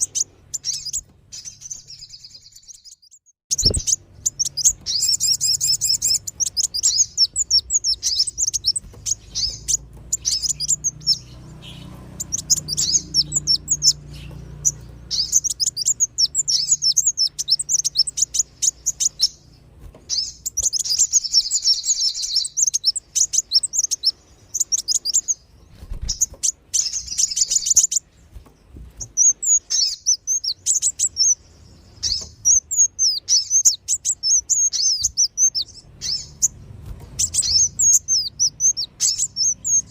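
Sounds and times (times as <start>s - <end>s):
rapid high bird chirps: 0.0s - 39.9s.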